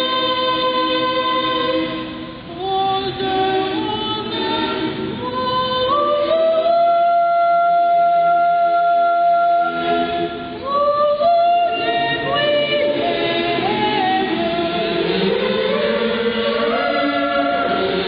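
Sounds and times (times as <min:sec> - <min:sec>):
boys' choir singing: 0:00.0 - 0:02.2, 0:03.0 - 0:07.2, 0:09.4 - 0:18.0.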